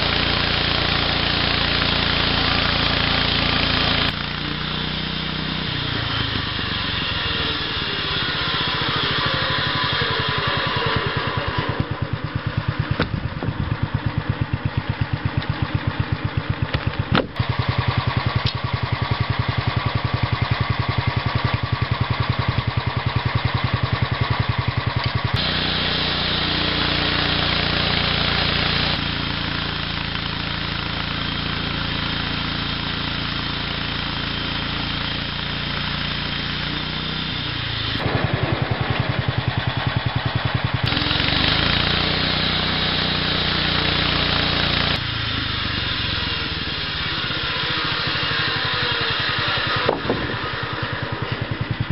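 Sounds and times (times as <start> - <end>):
band saw cutting log: 0.0 - 51.9
sawmill engine: 0.0 - 51.9.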